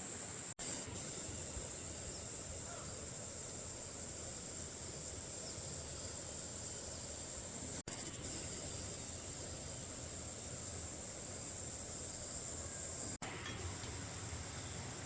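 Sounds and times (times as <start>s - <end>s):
insects droning: 0.0s - 15.0s
low background hiss: 0.1s - 15.0s.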